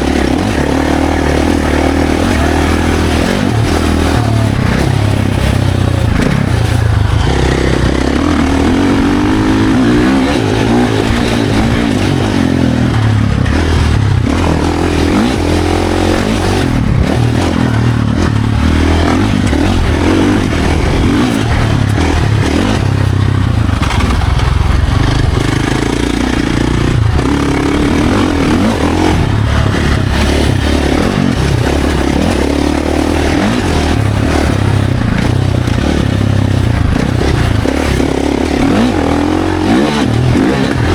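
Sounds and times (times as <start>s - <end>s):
wind rumble: 0.0s - 39.3s
dirt bike engine revving: 0.0s - 40.9s.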